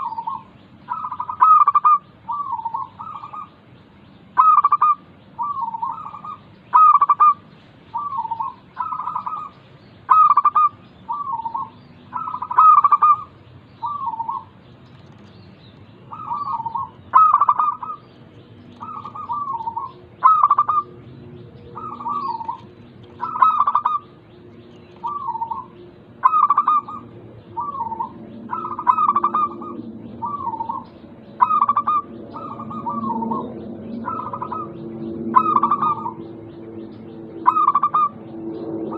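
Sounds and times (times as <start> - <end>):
dove cooing: 0.0 - 3.5, 4.4 - 9.5, 10.1 - 14.6, 16.1 - 18.1, 18.7 - 21.0, 21.7 - 24.2, 24.8 - 36.4, 37.4 - 38.9.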